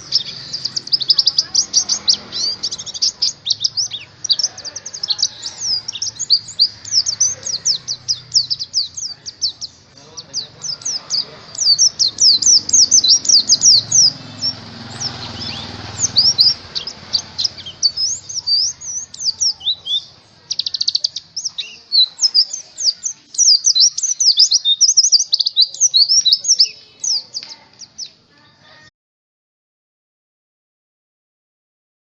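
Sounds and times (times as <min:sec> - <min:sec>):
songbird chirping: 0:00.0 - 0:28.9.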